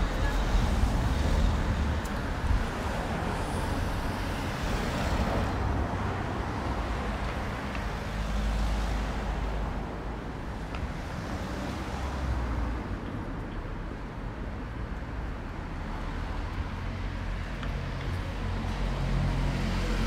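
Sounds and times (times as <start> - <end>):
car traffic rumble: 0.0 - 20.0.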